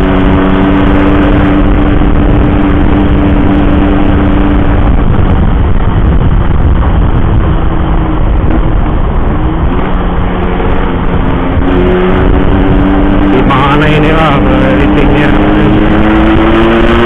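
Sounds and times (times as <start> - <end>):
motorcycle engine running: 0.0 - 17.0
wind rumble on microphone: 0.0 - 17.0.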